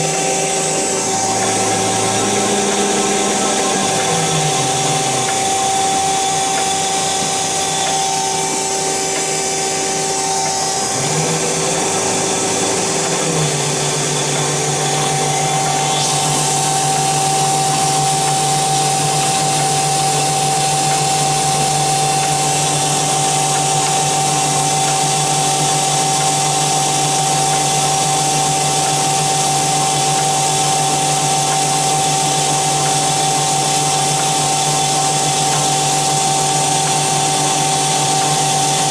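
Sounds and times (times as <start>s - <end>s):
bandsaw running with hum and whine: 0.0s - 38.9s.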